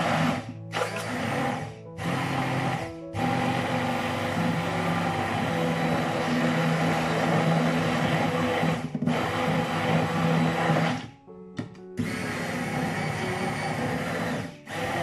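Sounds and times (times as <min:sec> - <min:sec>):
immersion blender motor hum: 0:00.0 - 0:11.1, 0:12.0 - 0:15.0.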